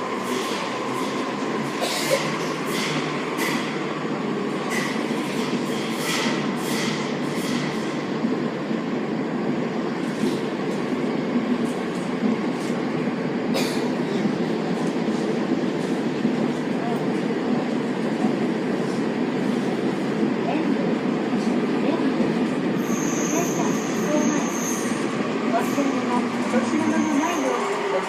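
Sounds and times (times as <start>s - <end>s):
train rumble in tunnel: 0.0s - 28.0s.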